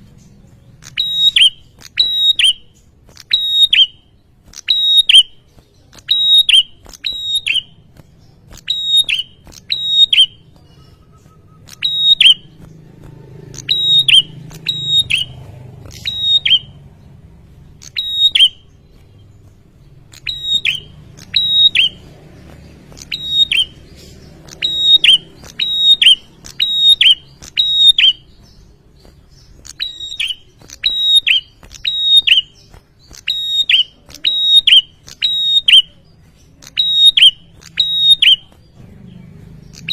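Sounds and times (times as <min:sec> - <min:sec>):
bird calling sharp notes: 0:00.8 - 0:12.8, 0:13.5 - 0:16.8, 0:17.7 - 0:19.3, 0:19.9 - 0:36.0, 0:36.6 - 0:38.7.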